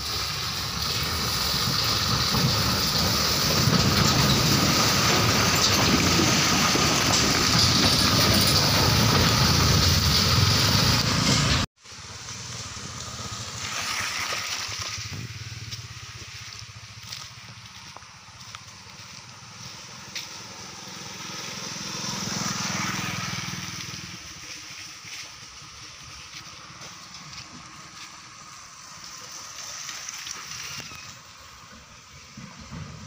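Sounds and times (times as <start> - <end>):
tyres crunching over gravel: 0.0 - 31.3
truck engine rumble: 0.0 - 33.0.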